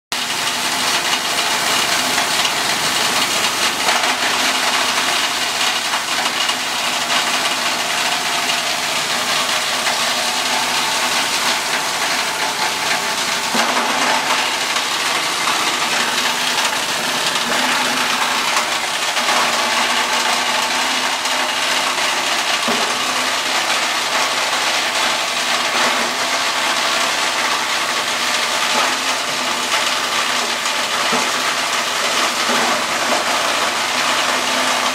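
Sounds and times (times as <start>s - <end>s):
shredder drive running: 0.1s - 34.9s
plastic shredder blades clattering: 0.2s - 34.9s.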